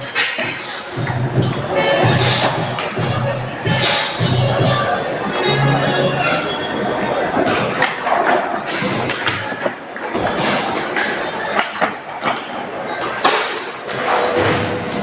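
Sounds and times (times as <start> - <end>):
skateboards rolling on concrete: 0.0 - 15.0.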